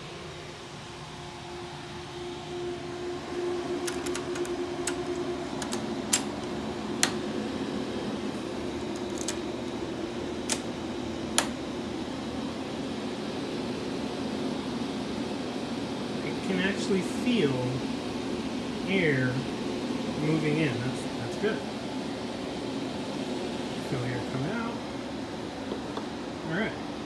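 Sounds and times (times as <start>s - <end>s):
cooling fans whirring hum: 0.0s - 27.0s.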